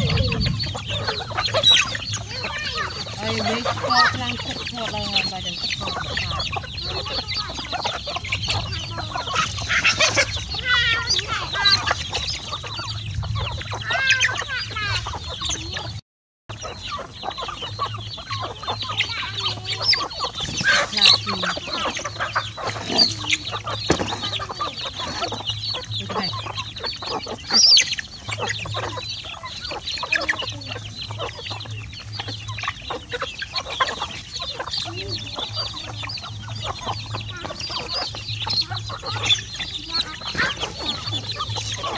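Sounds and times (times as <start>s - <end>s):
chickens clucking: 0.0s - 41.9s
high chirps of chicks: 0.0s - 41.9s.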